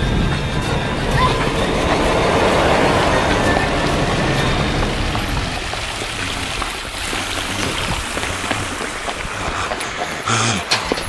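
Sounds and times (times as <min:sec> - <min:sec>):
running splashing water: 0:01.0 - 0:10.3.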